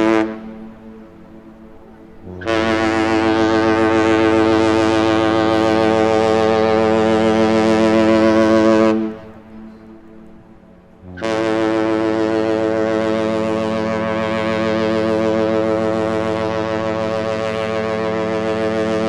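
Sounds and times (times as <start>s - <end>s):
ship's horn blast: 0.0s - 19.0s.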